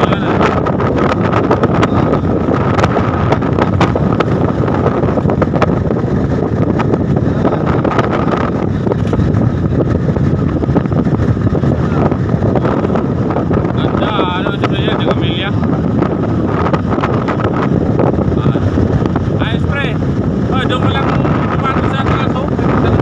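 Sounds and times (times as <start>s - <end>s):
road and engine rumble: 0.0s - 23.0s
wind buffeting microphone: 0.0s - 23.0s
wind crackles: 0.0s - 23.0s.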